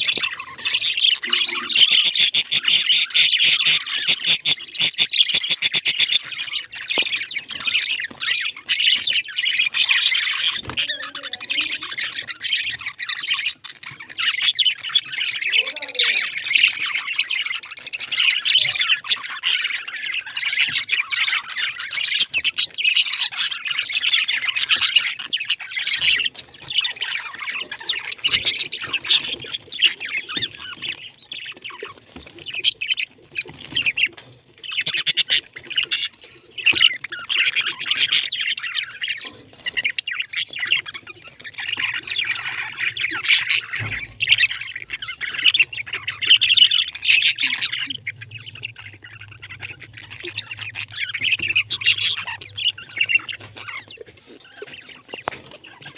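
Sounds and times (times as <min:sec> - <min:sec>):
flock of birds chattering: 0:00.0 - 0:55.9.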